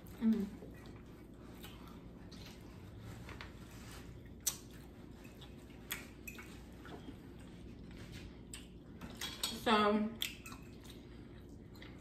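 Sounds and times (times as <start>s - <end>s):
wet chewing: 0.0s - 9.6s, 10.2s - 12.0s.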